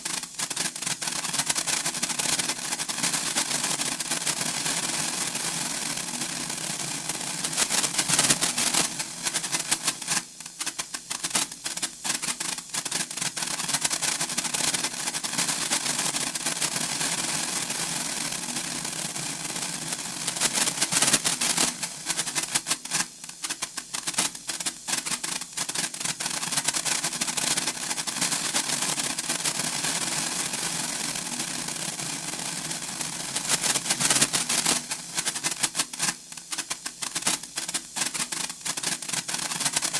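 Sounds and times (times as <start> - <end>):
sparkler crackling: 0.0 - 39.9.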